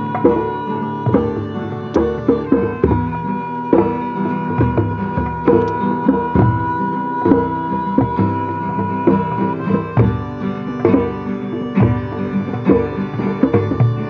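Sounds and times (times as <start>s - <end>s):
hurdy-gurdy playing: 0.0s - 14.0s
sharp percussive strokes: 0.0s - 14.0s.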